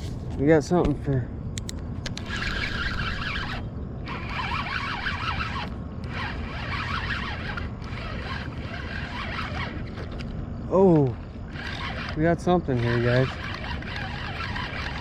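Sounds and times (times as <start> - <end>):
fishing reel clicking: 2.1 - 10.3, 10.9 - 15.0.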